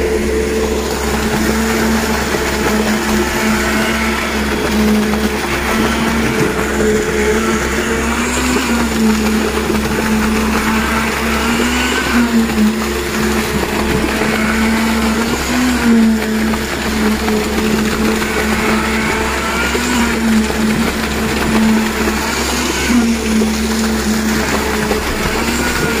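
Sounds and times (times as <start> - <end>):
concrete pump drone: 0.0 - 26.0
concrete vibrator motor whine: 0.0 - 26.0.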